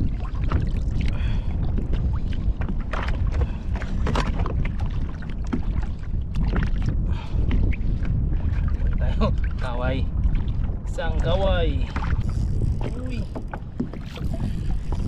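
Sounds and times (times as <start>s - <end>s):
water sloshing: 0.0s - 15.0s
wind buffeting microphone: 0.0s - 15.0s.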